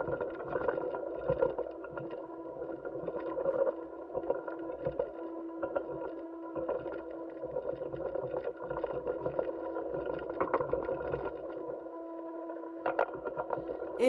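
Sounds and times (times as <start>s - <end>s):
clicks and crackles: 0.0s - 11.8s, 12.4s - 14.0s.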